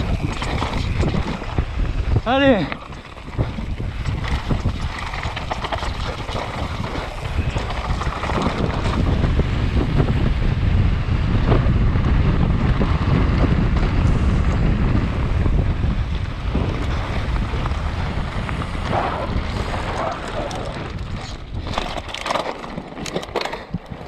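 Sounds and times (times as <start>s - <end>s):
tyres on gravel: 0.0s - 10.1s, 12.6s - 24.0s
wind on camera microphone: 0.0s - 22.2s
bike knocking and rattling: 0.0s - 24.0s.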